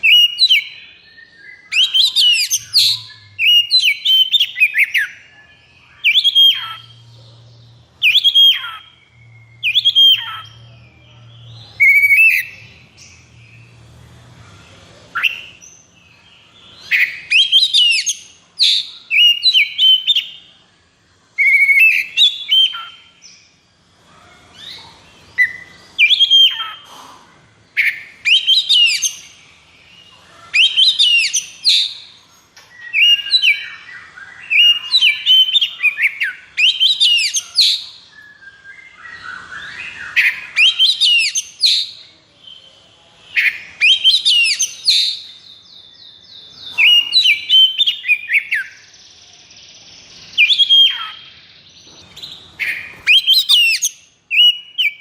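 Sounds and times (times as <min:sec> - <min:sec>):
magpie-robin singing: 0:00.0 - 0:23.6, 0:24.2 - 0:55.0.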